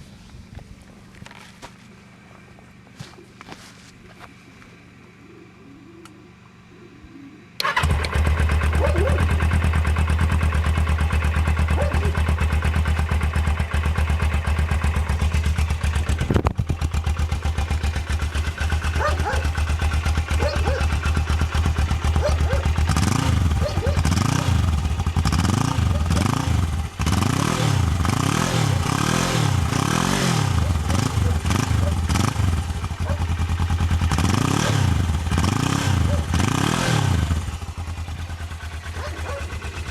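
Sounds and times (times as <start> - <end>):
motorcycle engine idling: 7.6 - 39.9.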